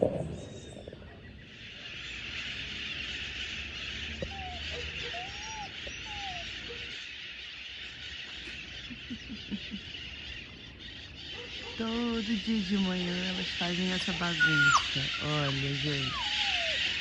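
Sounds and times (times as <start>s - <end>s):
birds chattering and calling: 0.0s - 17.0s.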